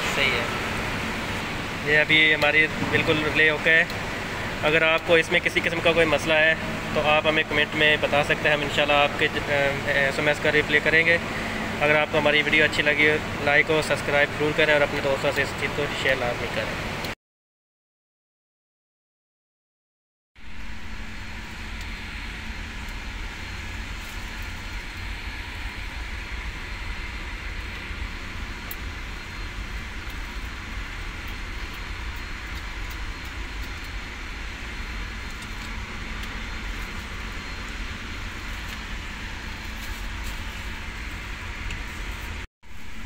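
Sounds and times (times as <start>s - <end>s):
machinery rumble with hiss: 0.0s - 17.1s, 20.4s - 43.0s
faint constant hum: 0.0s - 17.2s, 20.4s - 43.0s.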